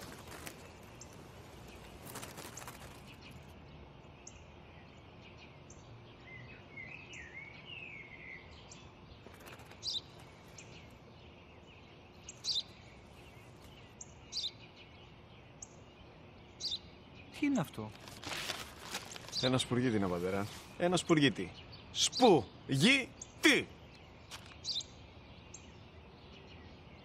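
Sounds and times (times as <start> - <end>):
sparrow chirping: 0.0 - 18.1, 19.2 - 27.0
low outdoor hiss: 0.0 - 27.0.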